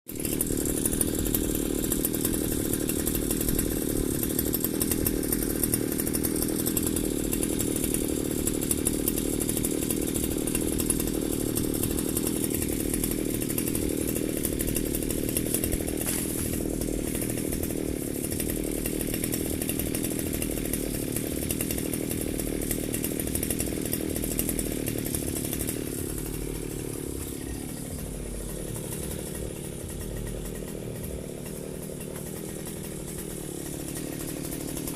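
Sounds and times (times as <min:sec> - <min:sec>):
brush cutter engine running: 0:00.1 - 0:34.9.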